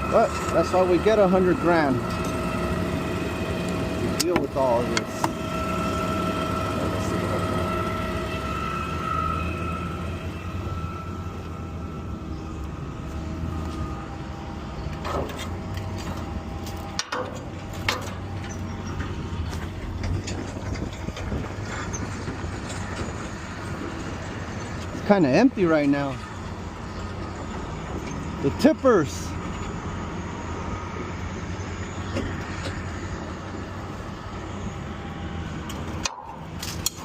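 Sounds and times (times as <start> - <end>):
diesel engine low drone: 0.0 - 37.0
high whine: 0.0 - 37.0.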